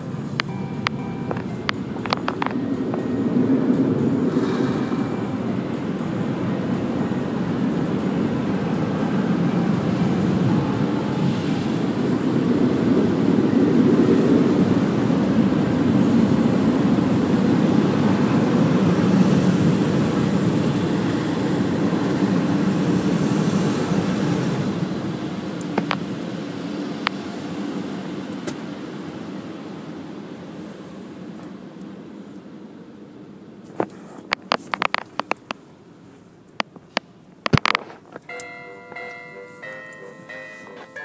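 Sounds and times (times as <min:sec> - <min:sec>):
car wash rushing rumble: 0:00.0 - 0:33.6.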